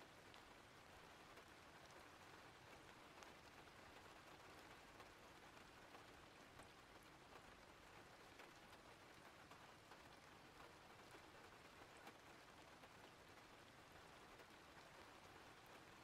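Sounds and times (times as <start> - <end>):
faint steady rain: 0.0 - 16.0
light ticks of raindrops: 0.0 - 16.0.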